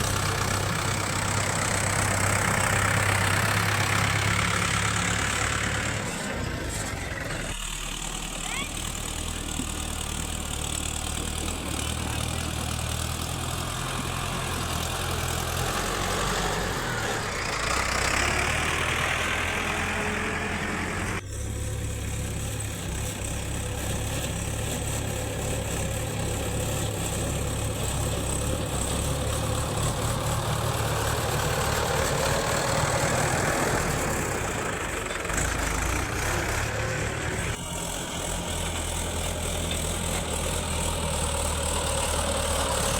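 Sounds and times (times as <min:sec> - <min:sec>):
diesel machinery engine running: 0:00.0 - 0:42.9.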